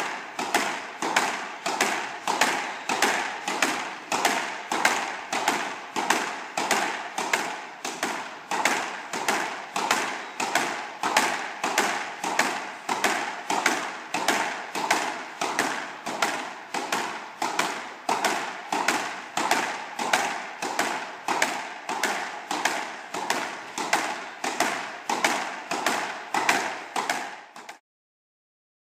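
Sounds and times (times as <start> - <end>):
squash ball knocks echoing: 0.0 - 27.8.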